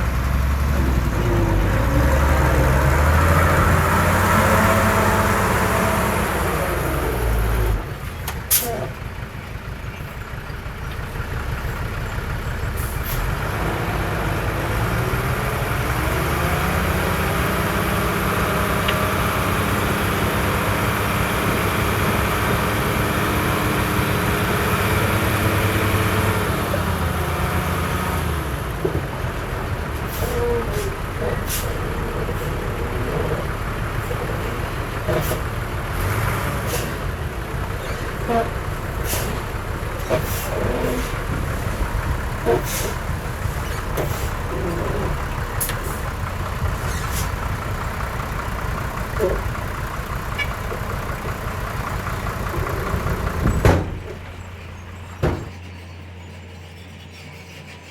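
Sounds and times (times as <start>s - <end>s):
heavy diesel engine under load: 0.0s - 57.9s.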